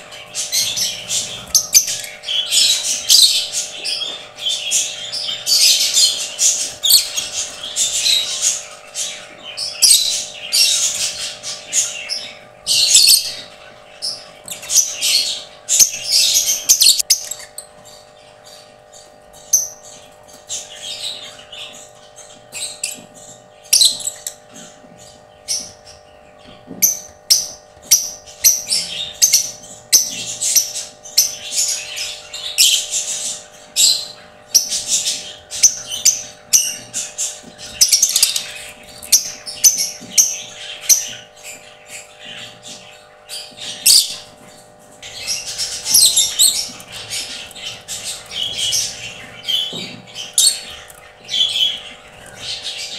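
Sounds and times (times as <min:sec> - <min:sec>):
lovebirds chattering and squawking: 0:00.0 - 0:52.9.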